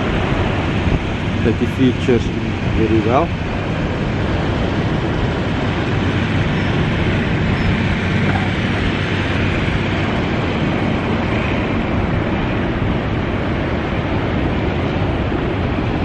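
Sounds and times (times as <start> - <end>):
outboard motor drone: 0.0 - 16.0.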